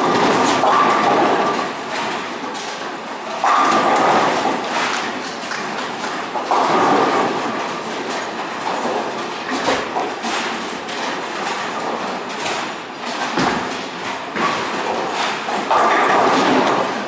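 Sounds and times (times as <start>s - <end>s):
bowling balls rumbling: 0.0s - 17.0s.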